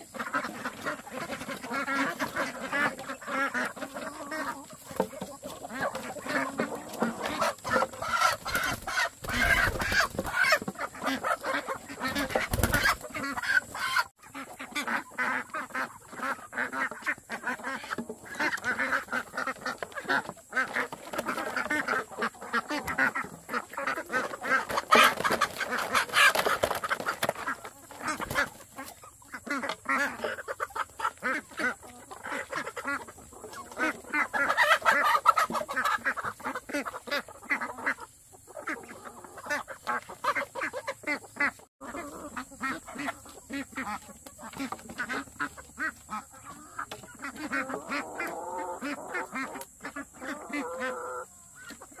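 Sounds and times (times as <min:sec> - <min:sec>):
poultry flock calling: 0:00.0 - 0:52.0.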